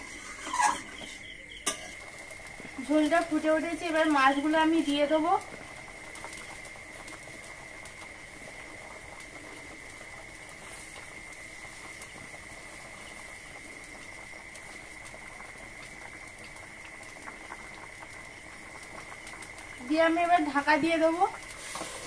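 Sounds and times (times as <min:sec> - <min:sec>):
broth boiling and bubbling: 0:00.0 - 0:22.0.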